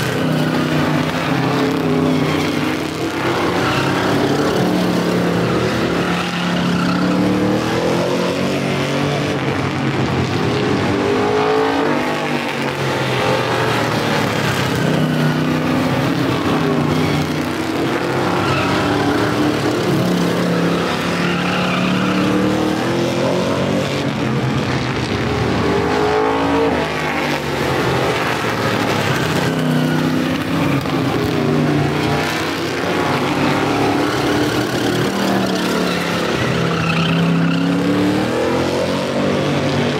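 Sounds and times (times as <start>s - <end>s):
race car engines: 0.0s - 39.9s.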